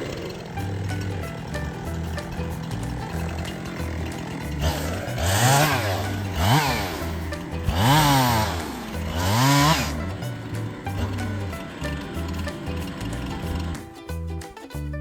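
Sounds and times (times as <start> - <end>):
chainsaw engine revving: 0.0 - 13.9
background music with bass line: 0.5 - 15.0.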